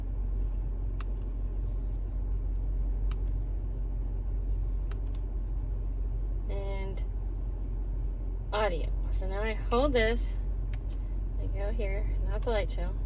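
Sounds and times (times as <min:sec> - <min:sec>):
vehicle rumble inside cabin: 0:00.0 - 0:13.0.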